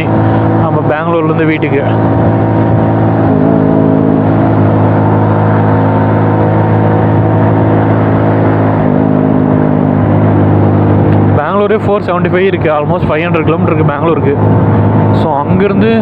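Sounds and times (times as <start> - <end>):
moped engine running: 0.0 - 16.0
road and wind hiss: 0.0 - 16.0.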